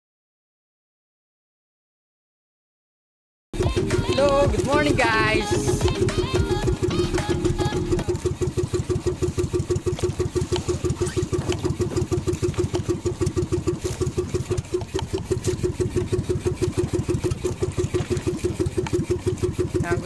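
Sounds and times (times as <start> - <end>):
boat engine chugging: 3.6 - 20.0.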